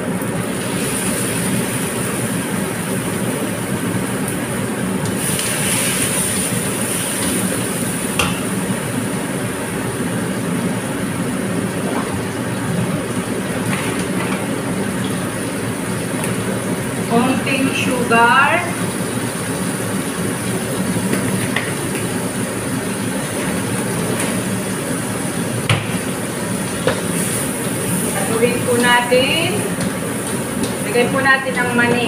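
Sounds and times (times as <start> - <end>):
food sizzling in hot oil: 0.0 - 11.6, 13.2 - 32.0.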